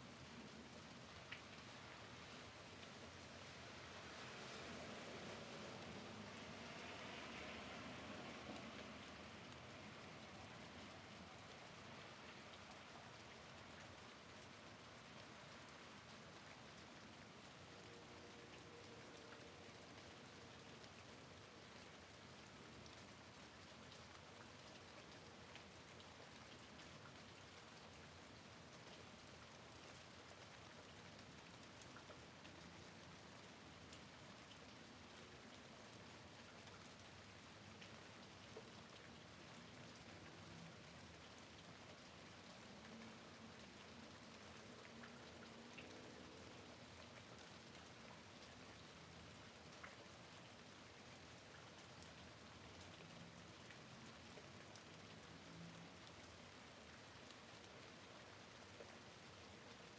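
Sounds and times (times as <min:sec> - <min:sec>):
faint rain falling: 0:00.0 - 0:59.9.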